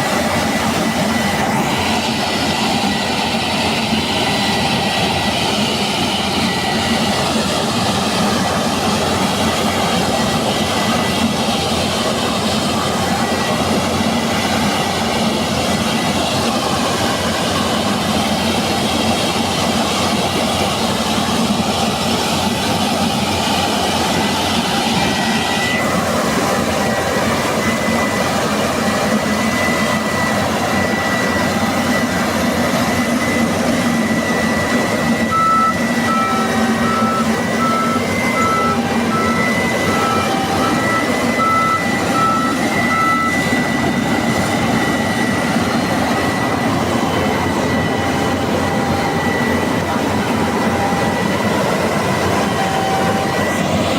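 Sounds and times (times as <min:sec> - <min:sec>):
combine harvester engine: 0:00.0 - 0:53.9
continuous high whine: 0:00.0 - 0:53.9
machinery hissing: 0:00.0 - 0:53.9.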